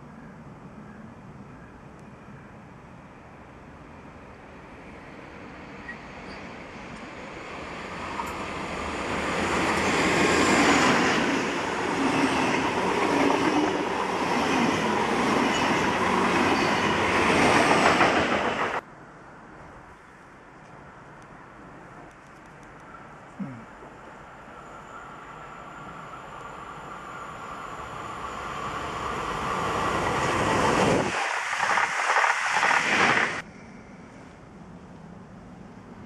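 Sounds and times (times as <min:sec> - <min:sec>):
passenger train passing on rails: 0:00.0 - 0:23.2, 0:23.8 - 0:36.0.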